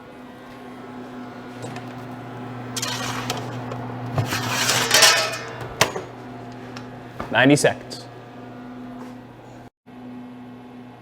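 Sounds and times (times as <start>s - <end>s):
oven humming: 0.0s - 11.0s.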